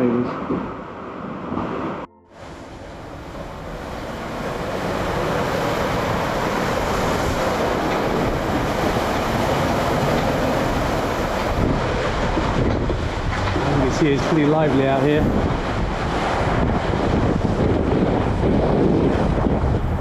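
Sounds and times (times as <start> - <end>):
breaking waves and wake: 0.0 - 20.0
wind buffeting the microphone: 0.0 - 20.0.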